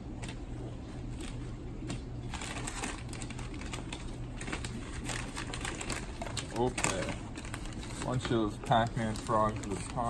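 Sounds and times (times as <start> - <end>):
packing paper rustling: 0.0 - 10.0.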